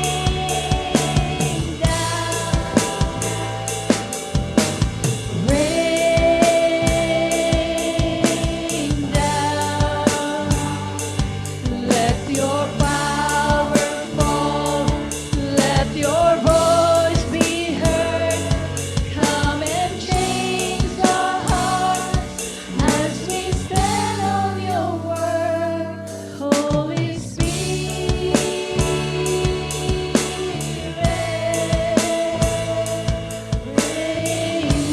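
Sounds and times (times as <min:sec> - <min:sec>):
person singing: 0:00.0 - 0:04.0, 0:05.3 - 0:34.9
drum kit beat: 0:00.0 - 0:25.5, 0:26.5 - 0:34.9
worship band playing: 0:00.0 - 0:34.9.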